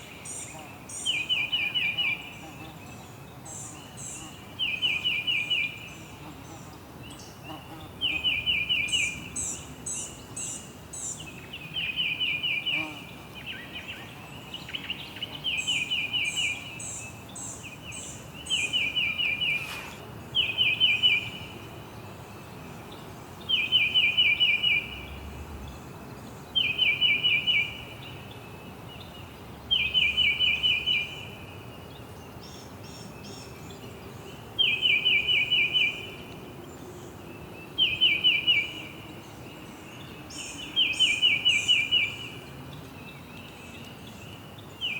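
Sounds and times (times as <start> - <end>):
background hiss: 0.0 - 44.9.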